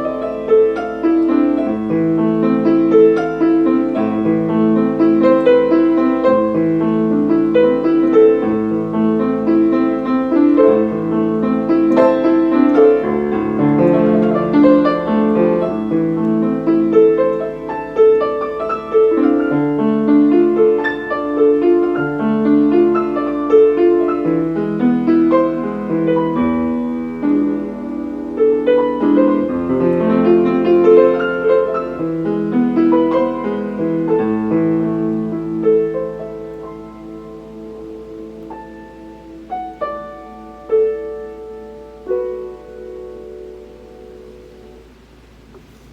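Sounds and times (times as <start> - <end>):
piano playing: 0.0 - 45.9.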